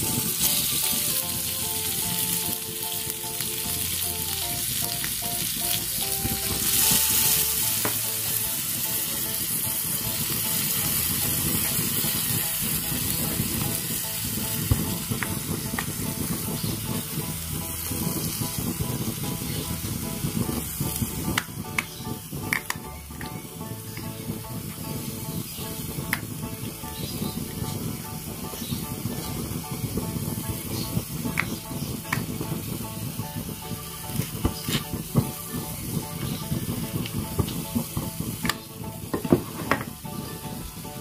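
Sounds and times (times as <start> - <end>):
food sizzling in a wok: 0.0 - 41.0
soft background music: 0.0 - 41.0.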